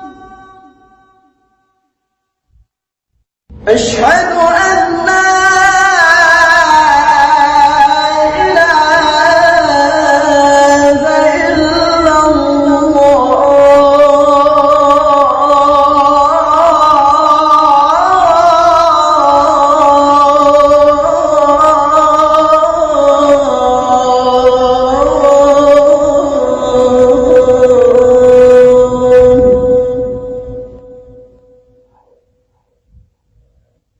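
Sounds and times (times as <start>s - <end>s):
man chanting call to prayer: 3.5s - 32.2s.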